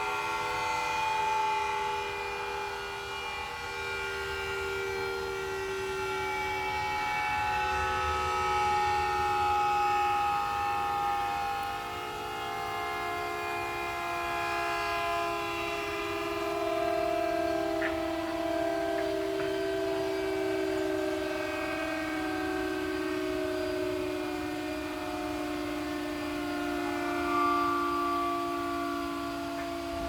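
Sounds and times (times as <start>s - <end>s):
warning siren chord: 0.0s - 30.0s.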